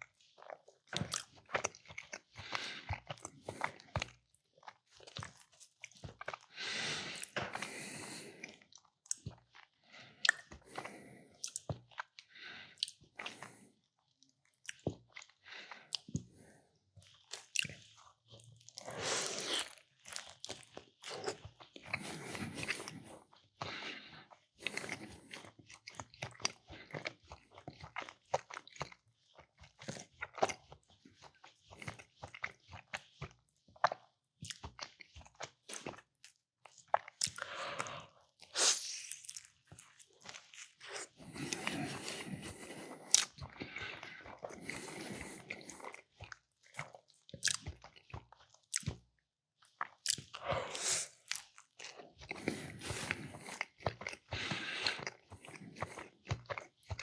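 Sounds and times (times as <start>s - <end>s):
close chewing and biting: 0.0s - 57.0s.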